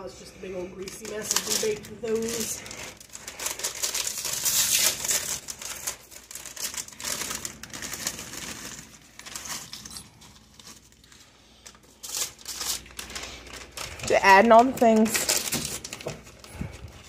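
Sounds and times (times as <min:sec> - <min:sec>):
plastic snack bag crinkling: 0:00.7 - 0:17.0.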